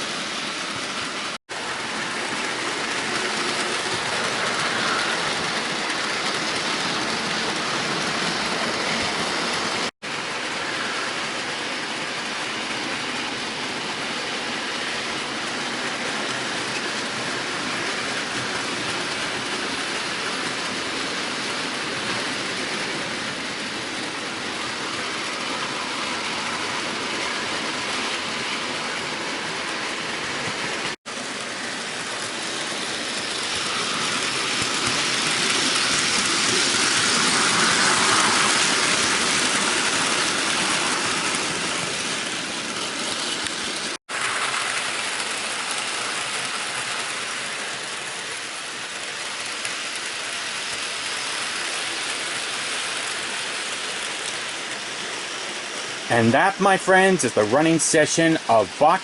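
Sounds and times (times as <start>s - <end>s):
model train wheels rolling on rails: 0.0s - 59.0s.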